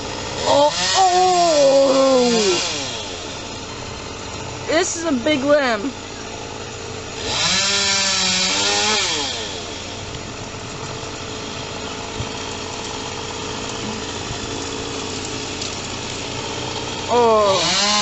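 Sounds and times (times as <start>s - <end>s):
chainsaw revving: 0.0s - 18.0s
engine idling: 0.0s - 18.0s.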